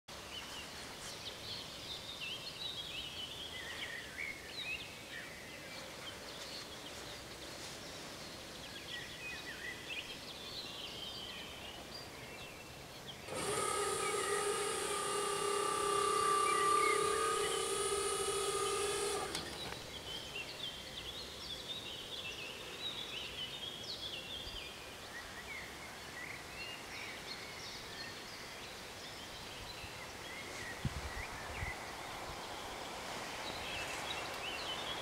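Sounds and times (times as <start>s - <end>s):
small birds chirping: 0.3s - 24.6s, 26.7s - 35.0s.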